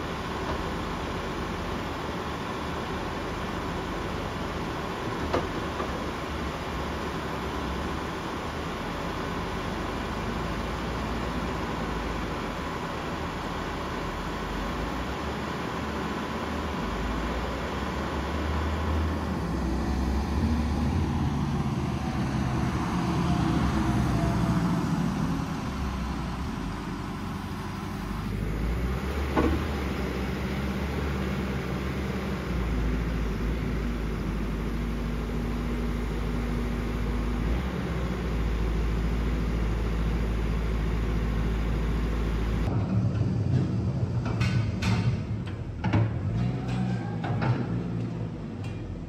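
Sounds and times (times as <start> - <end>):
farm machine engine rumbling: 0.0 - 49.0.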